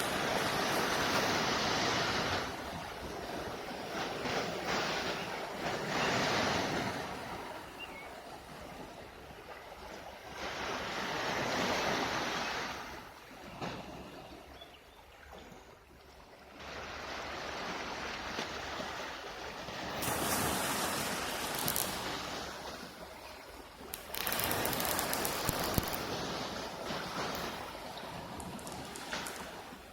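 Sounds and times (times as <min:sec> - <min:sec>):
waves washing onto shore: 0:00.0 - 0:14.4, 0:16.4 - 0:29.9.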